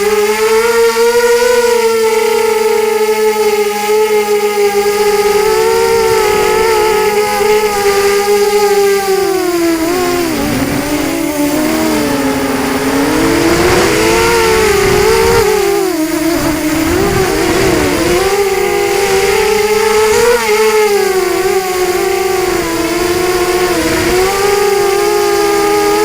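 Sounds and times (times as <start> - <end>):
quadcopter motors whining: 0.0 - 26.0
wind on microphone: 4.7 - 26.0.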